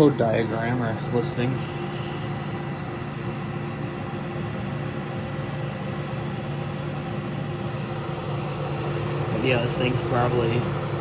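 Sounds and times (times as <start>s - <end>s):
dehumidifier humming: 0.0s - 11.0s.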